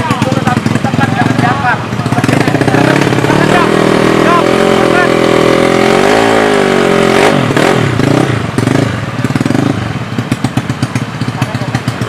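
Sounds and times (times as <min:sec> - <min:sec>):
motorcycle engine revving and popping: 0:00.0 - 0:12.0.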